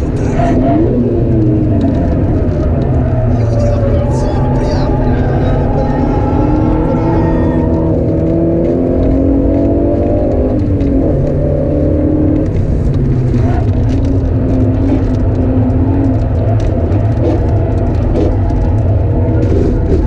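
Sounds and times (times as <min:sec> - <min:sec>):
car engine heard from cabin: 0:00.0 - 0:20.0.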